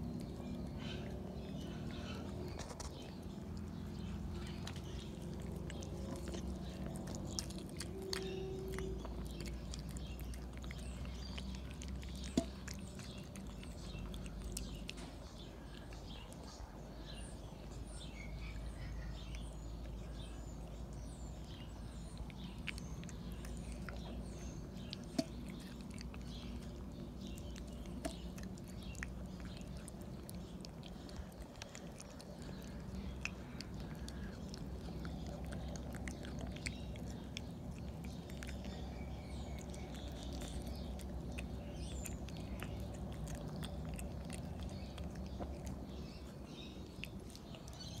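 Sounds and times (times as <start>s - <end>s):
cat chewing from metal bowl: 0.0s - 16.2s, 21.6s - 48.0s.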